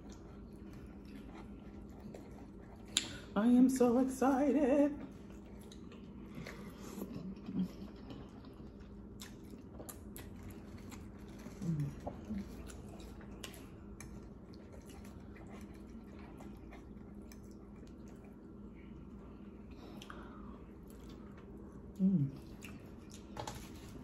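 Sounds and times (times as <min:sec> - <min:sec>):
chewing spaghetti: 0:00.0 - 0:03.4, 0:04.7 - 0:24.0.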